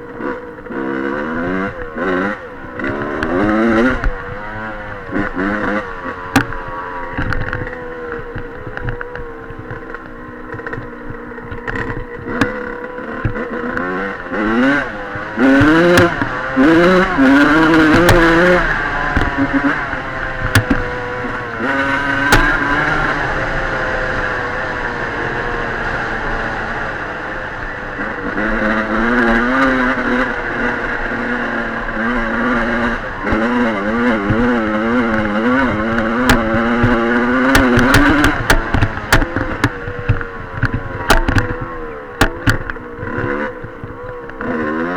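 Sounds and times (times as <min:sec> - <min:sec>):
sharp clattering knocks: 0:00.0 - 0:24.4, 0:27.3 - 0:44.9
dirt bike engine revving: 0:00.0 - 0:44.9.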